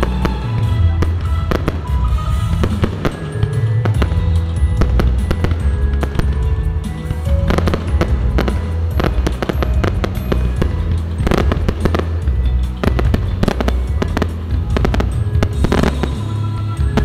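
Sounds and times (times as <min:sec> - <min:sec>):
fireworks bursting: 0:00.0 - 0:17.0
loud music with bass line: 0:00.0 - 0:17.0.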